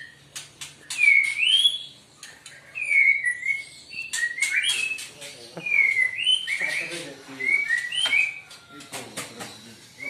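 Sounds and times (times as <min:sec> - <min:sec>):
songbird whistling: 0:00.0 - 0:10.0.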